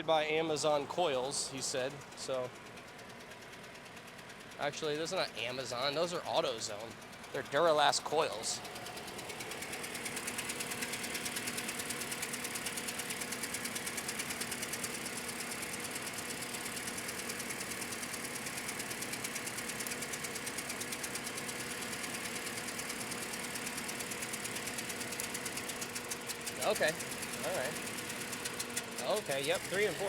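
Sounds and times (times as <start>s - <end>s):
fast engine ticking: 0.1s - 30.0s
car engine idling rough: 0.2s - 30.0s.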